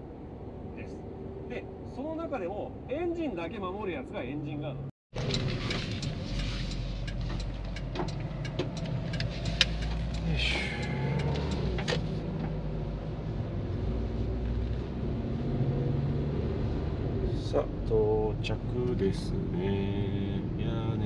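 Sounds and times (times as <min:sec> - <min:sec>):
van engine and road noise: 0:00.0 - 0:21.0.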